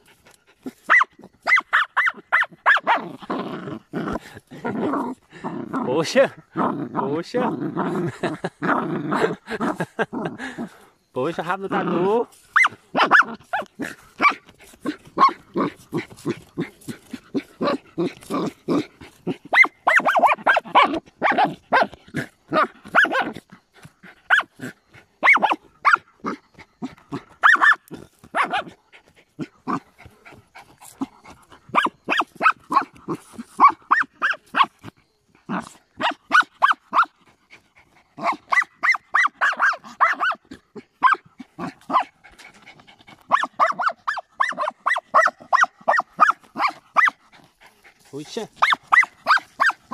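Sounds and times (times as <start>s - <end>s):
dirt being clawed: 0.0s - 49.9s
dog barking and yelping: 0.0s - 49.9s.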